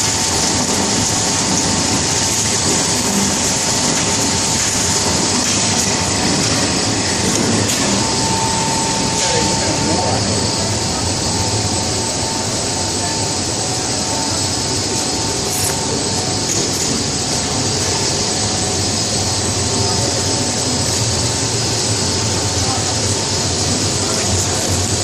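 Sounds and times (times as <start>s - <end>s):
faint machine whines: 0.0s - 25.0s
steady machine noise: 0.0s - 25.0s.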